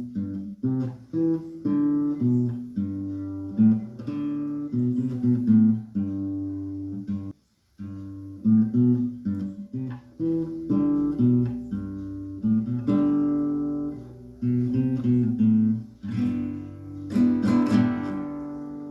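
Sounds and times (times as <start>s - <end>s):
acoustic guitar strumming chords: 0.0s - 18.9s.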